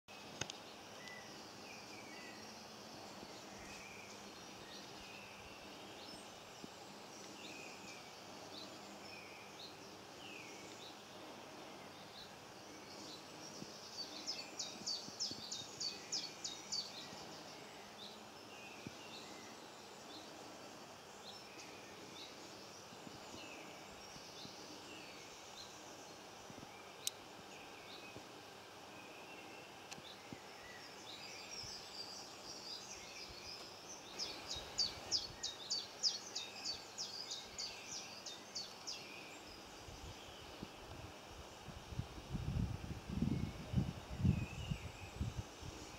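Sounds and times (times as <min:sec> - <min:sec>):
songbirds chirping: 0:00.1 - 0:45.9.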